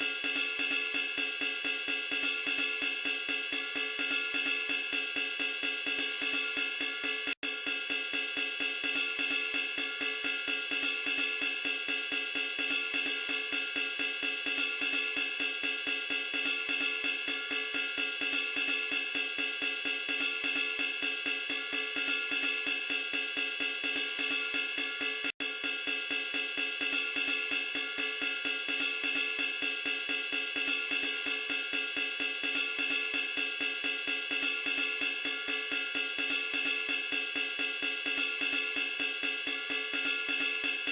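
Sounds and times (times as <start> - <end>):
music with fast steady beat: 0.0 - 40.9.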